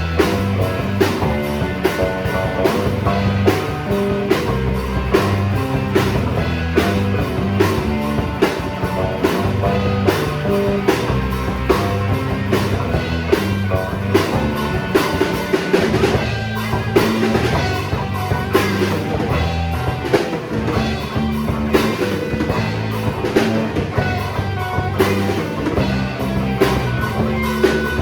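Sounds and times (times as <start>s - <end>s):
rock music with drums bass guitar: 0.0s - 28.0s.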